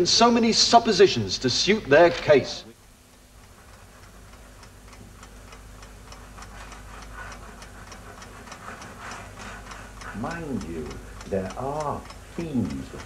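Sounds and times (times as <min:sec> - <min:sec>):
clock ticking: 0:00.0 - 0:13.0
low steady hum: 0:00.0 - 0:13.0.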